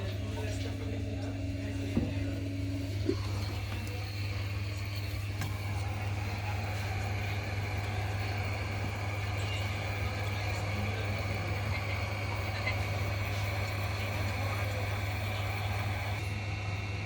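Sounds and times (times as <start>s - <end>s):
constant low hum: 0.0s - 17.0s
hot air blower hissing: 0.0s - 17.0s.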